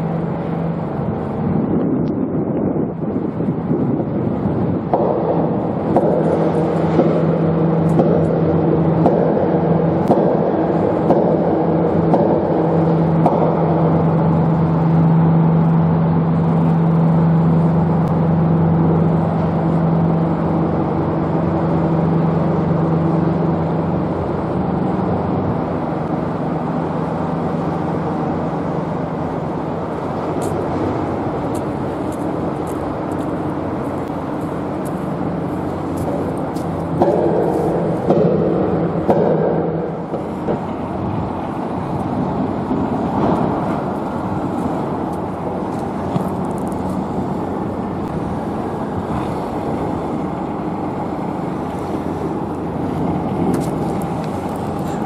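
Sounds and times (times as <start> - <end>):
constant low hum: 0.0 - 55.0
engine drone: 0.0 - 55.0
rumbling background: 0.0 - 55.0.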